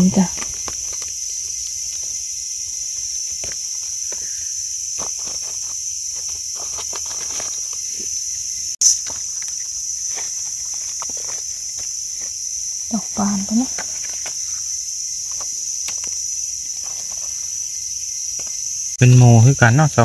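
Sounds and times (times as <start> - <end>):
footsteps on leaf litter: 0.0 - 8.3, 8.9 - 17.6
insects droning: 0.0 - 20.0.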